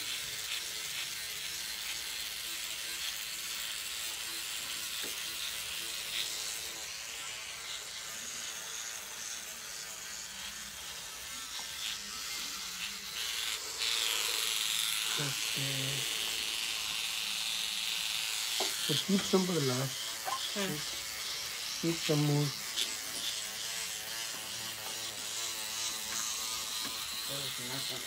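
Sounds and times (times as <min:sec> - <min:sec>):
microneedling pen buzzing: 0:00.0 - 0:28.0.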